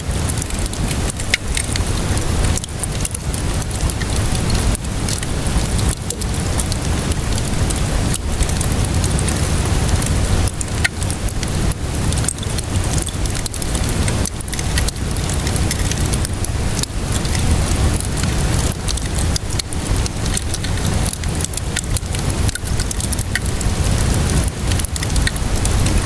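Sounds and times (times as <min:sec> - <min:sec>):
steady rainfall: 0:00.0 - 0:26.0
wood fire crackling: 0:00.0 - 0:26.0.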